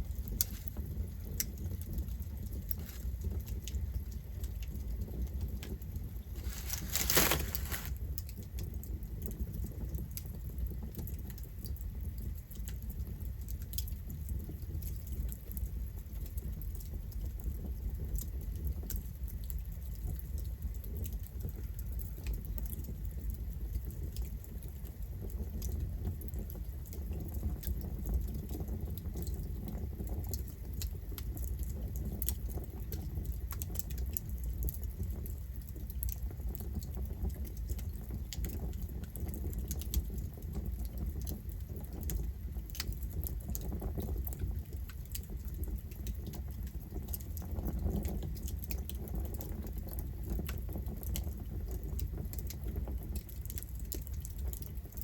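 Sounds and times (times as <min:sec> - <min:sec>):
campfire crackling and popping: 0:00.0 - 0:16.5, 0:25.2 - 0:55.0.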